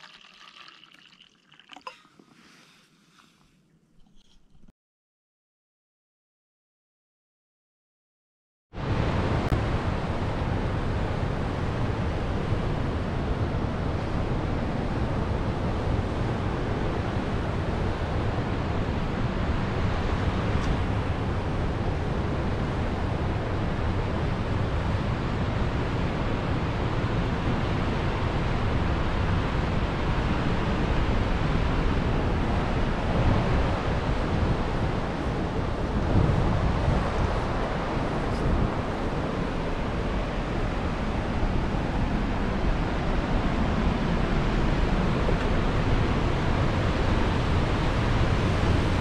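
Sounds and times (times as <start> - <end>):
wind on microphone: 8.9 - 49.0.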